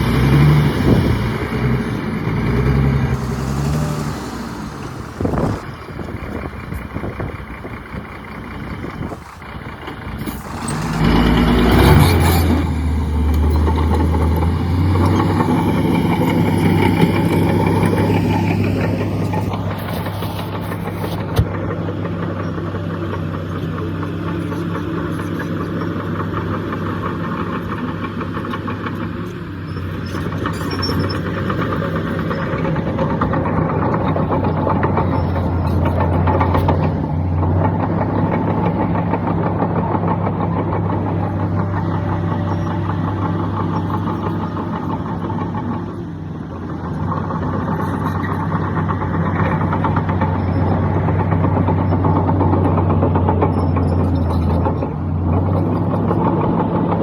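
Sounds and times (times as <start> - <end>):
heavy diesel engine humming: 0.0 - 57.0.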